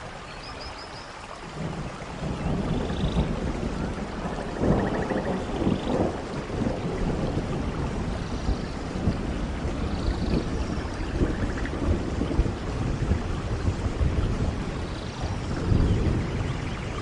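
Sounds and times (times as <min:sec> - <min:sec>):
steady rainfall: 0:00.0 - 0:17.0
rolling thunder: 0:01.6 - 0:17.0.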